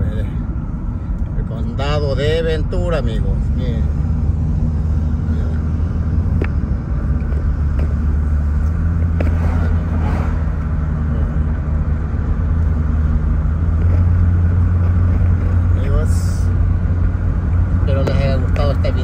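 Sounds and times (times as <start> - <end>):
car engine and tyre rumble: 0.0 - 19.0
oncoming vehicles passing: 0.0 - 19.0.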